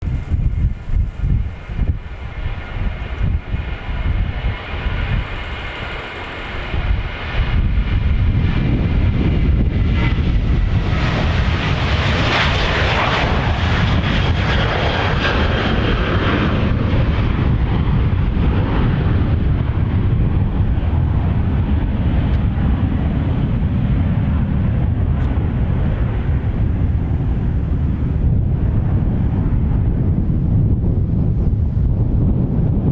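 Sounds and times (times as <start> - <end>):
airliner engines passing: 0.0 - 32.9.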